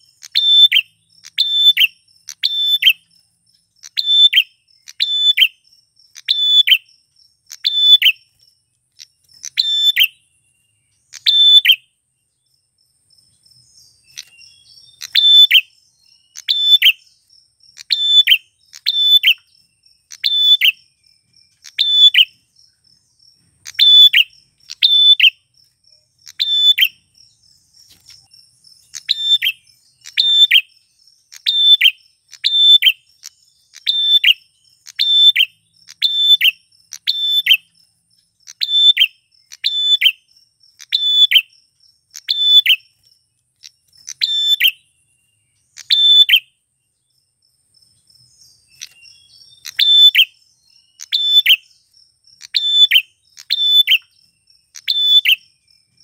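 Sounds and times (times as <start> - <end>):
bird chirping calls: 0.0 - 56.0
faint insect trill: 0.0 - 56.0.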